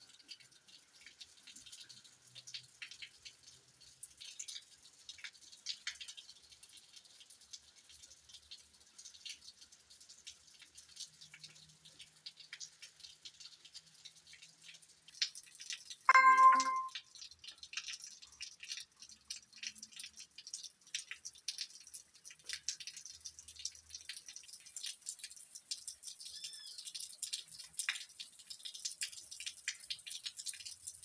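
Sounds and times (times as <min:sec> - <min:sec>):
rain drops tapping: 0:00.1 - 0:31.0.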